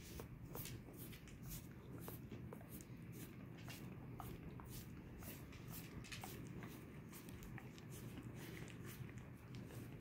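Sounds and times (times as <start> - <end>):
dog licking: 0.0 - 10.0.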